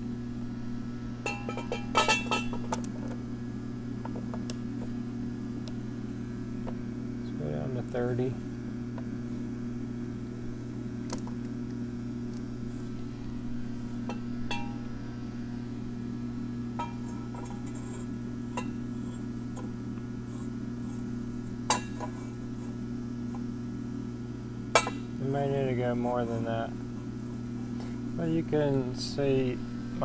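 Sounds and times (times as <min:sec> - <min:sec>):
low shop hum: 0:00.0 - 0:30.0.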